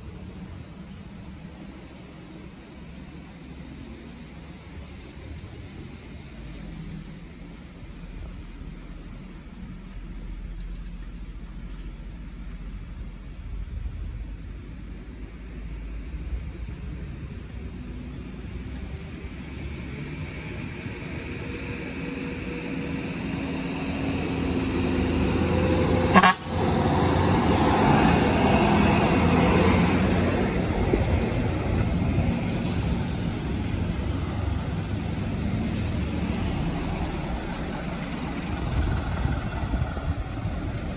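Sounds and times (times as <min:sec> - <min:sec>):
heavy truck engine rumble: 0:00.0 - 0:40.9.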